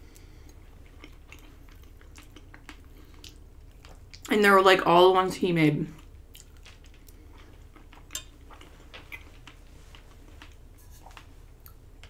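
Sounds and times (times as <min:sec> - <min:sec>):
chewing pasta: 0:00.0 - 0:04.3, 0:05.9 - 0:12.0.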